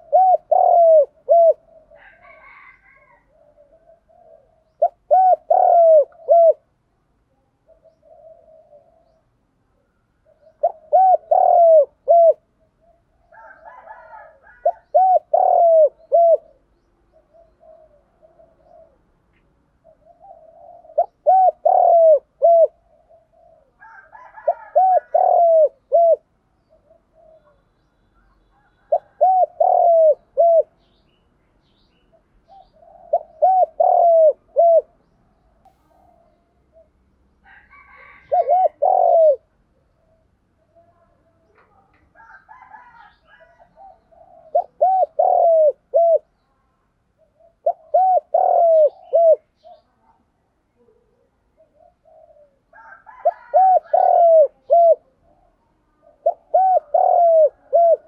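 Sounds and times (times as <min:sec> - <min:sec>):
dove cooing: 0:00.0 - 0:31.0, 0:32.1 - 0:35.2, 0:35.8 - 0:46.4, 0:47.1 - 0:58.0.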